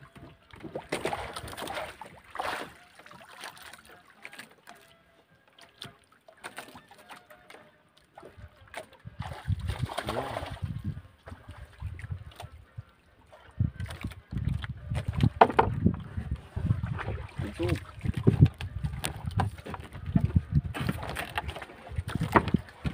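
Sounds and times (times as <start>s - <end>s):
water lapping against canoe hull: 0.0s - 22.9s.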